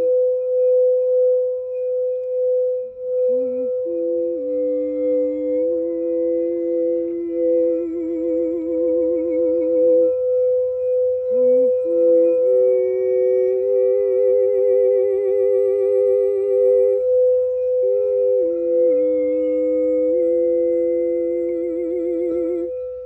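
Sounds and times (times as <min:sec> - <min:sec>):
singing bowl drone: 0:00.0 - 0:23.0.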